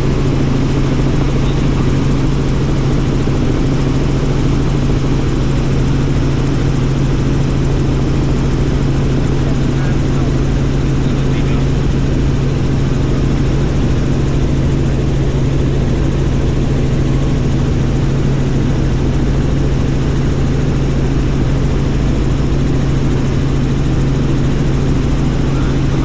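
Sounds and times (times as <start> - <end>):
helicopter engine and rotor drone: 0.0 - 26.0.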